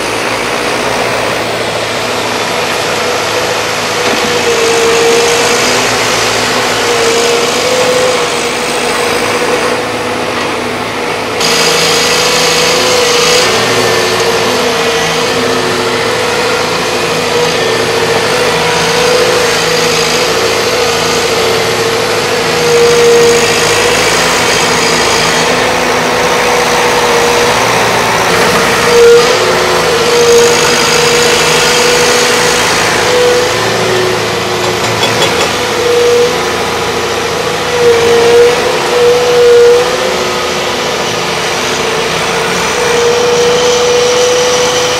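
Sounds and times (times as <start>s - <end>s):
excavator diesel engines running: 0.0s - 44.9s.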